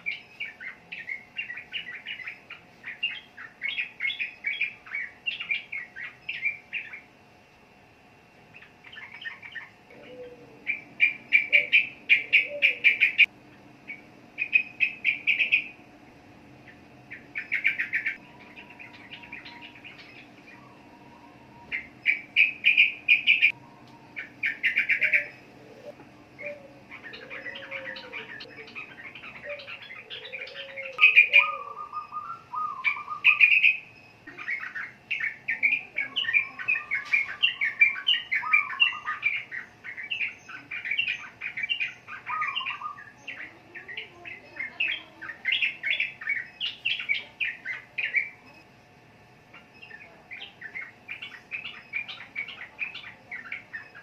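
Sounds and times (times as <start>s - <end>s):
bulbul chattering song: 0.0s - 7.4s, 8.4s - 54.0s.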